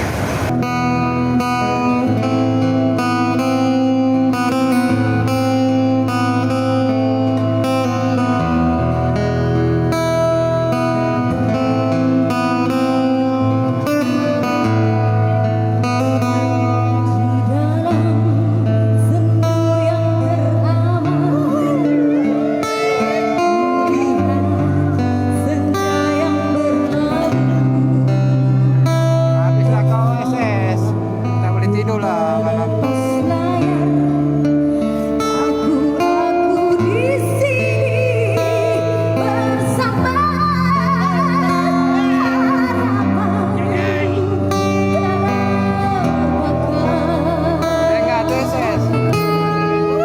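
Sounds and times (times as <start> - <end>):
acoustic guitar: 0.0 - 50.0
low held notes: 0.0 - 50.0
sustained bass line: 0.0 - 50.0
woman singing with vibrato: 0.6 - 29.1, 32.0 - 50.0.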